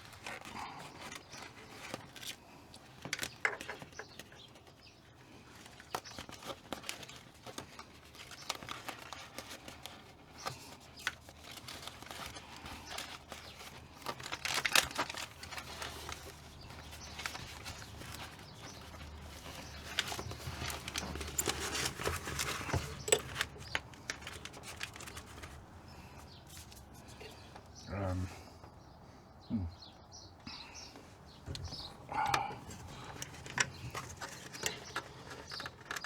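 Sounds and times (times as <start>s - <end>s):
insulation sheets crinkling: 0.0s - 27.8s, 30.9s - 36.0s.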